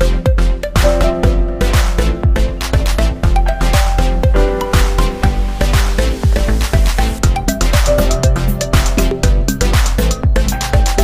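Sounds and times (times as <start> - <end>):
steady kick drum: 0.0 - 11.0.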